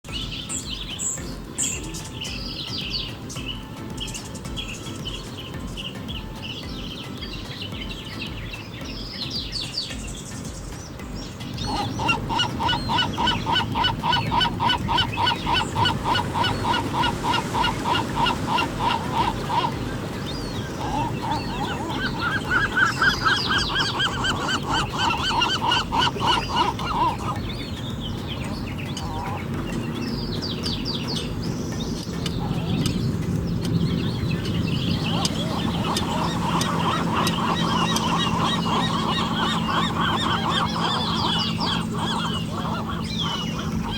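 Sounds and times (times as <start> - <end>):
steady background rush: 0.0 - 43.9
gulls honking calls: 0.1 - 43.9.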